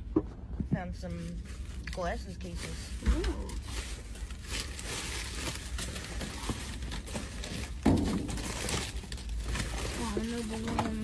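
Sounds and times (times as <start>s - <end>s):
plastic bags crinkling: 1.2s - 11.0s.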